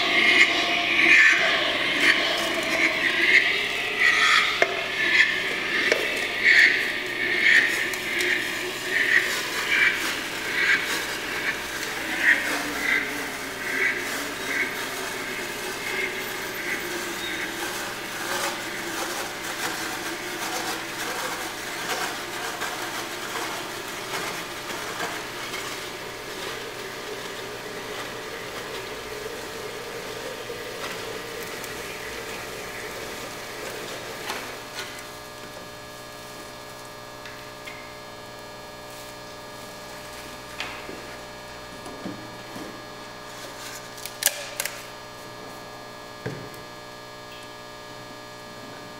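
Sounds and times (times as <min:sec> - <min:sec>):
liquid nitrogen hissing and sputtering: 0:00.0 - 0:48.9
low steady hum: 0:02.4 - 0:46.7.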